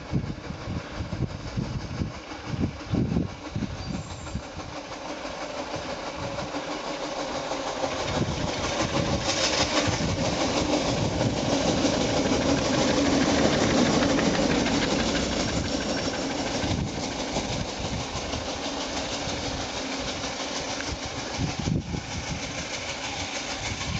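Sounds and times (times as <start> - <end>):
steam locomotive exhaust beating: 0.0 - 23.9.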